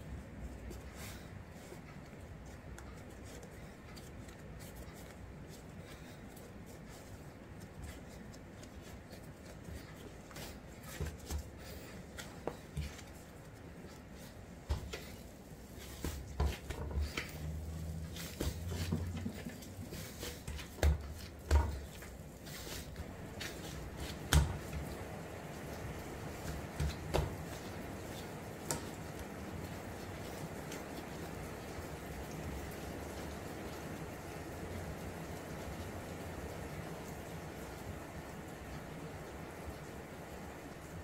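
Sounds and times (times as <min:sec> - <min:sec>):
hands kneading dough: 0:00.0 - 0:41.0.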